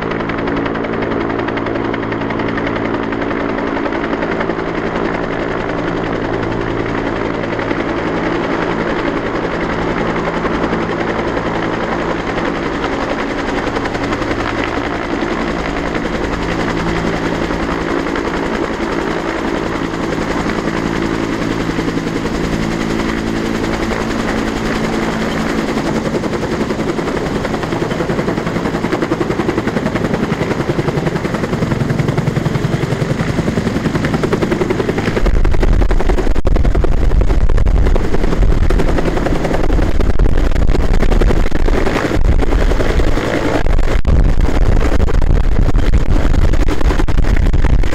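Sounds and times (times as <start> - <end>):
helicopter rotor beating: 0.0 - 47.9
turbine hum: 0.0 - 47.9.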